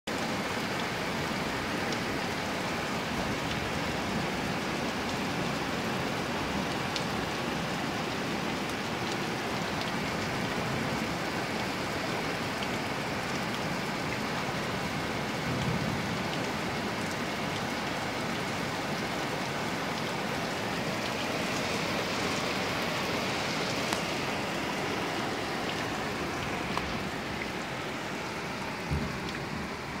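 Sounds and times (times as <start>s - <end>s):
heavy rain on street: 0.1s - 30.0s.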